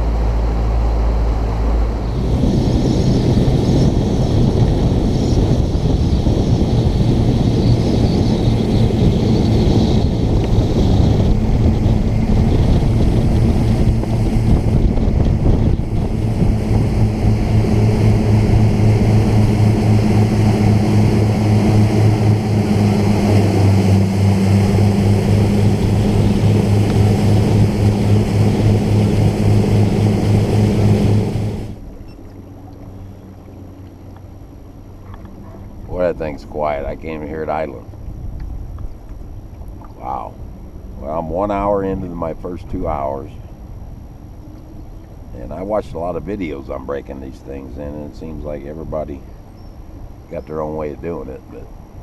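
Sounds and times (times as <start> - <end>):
outboard motor drone: 0.0 - 52.0.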